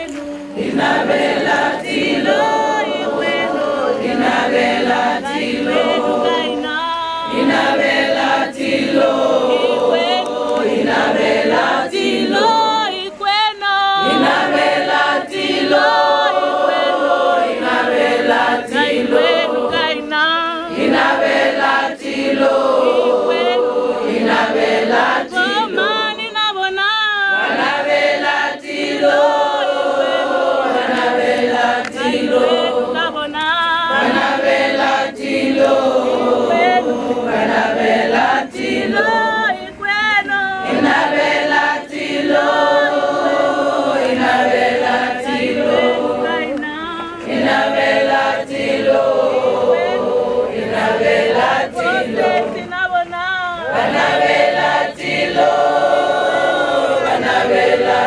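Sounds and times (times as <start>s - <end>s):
crowd singing unaccompanied: 0.0s - 58.0s.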